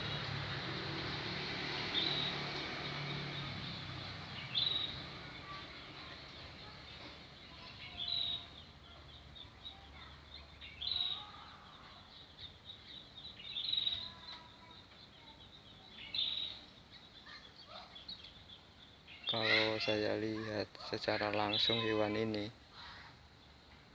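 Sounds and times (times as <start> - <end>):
faint outdoor background noise: 0.0 - 23.9
wild birds chirping: 0.0 - 23.9.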